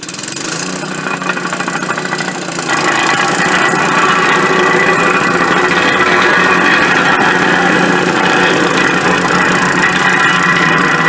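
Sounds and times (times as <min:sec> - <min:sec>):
plate compactor engine running: 0:00.0 - 0:11.0.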